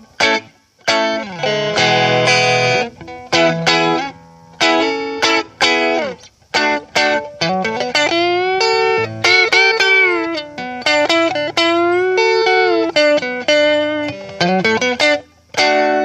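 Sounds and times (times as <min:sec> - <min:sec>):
electric guitar chords and notes: 0:00.0 - 0:16.0.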